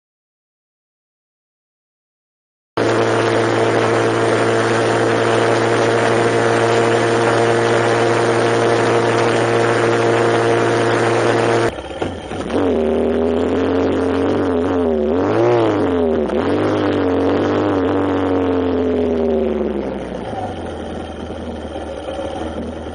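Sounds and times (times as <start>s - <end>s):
vehicle engine running: 2.8s - 22.9s.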